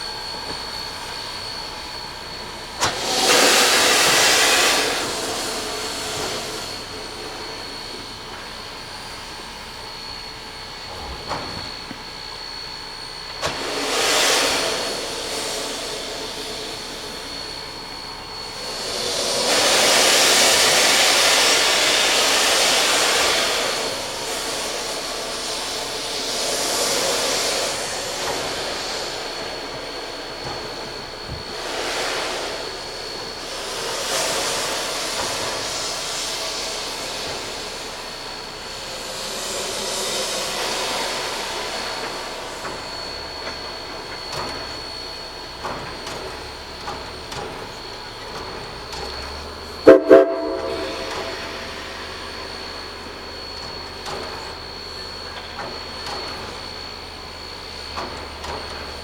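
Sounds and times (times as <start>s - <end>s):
steam locomotive venting steam: 0.0s - 59.0s.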